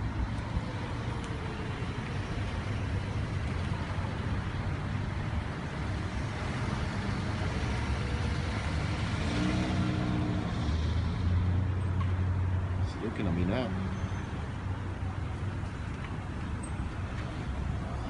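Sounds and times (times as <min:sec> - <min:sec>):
cars going by: 0:00.0 - 0:18.0.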